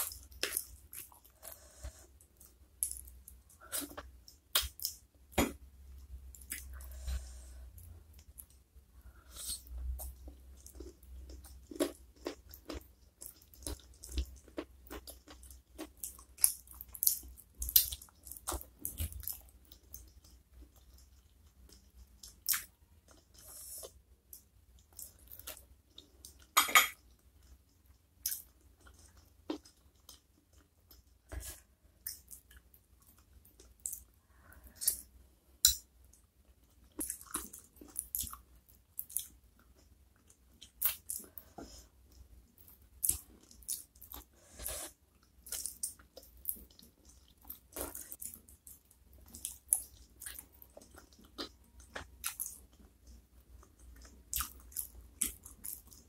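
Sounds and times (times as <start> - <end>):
person chewing wetly: 0.0 - 5.0, 9.3 - 56.0.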